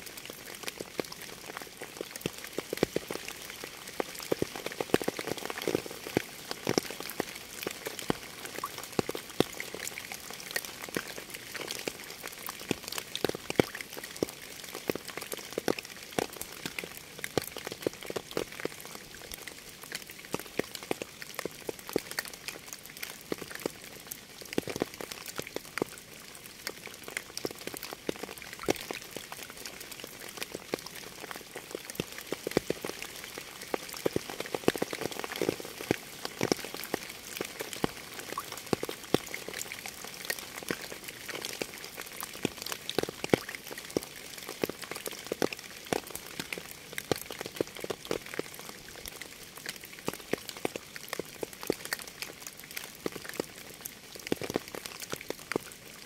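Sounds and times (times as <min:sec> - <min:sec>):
raindrops clicking close by: 0:00.0 - 0:56.0.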